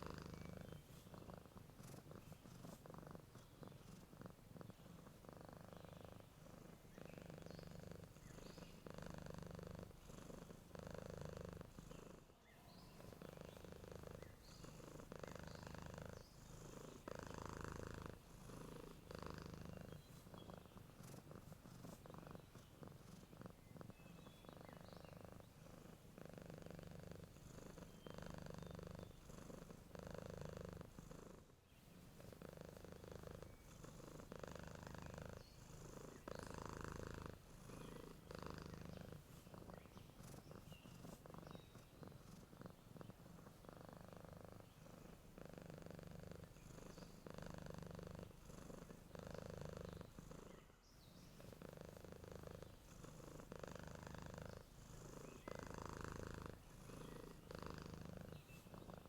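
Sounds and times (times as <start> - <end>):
faint bird chirps: 0.0 - 10.5, 11.1 - 30.8, 31.7 - 59.0
cat purring: 0.0 - 59.0.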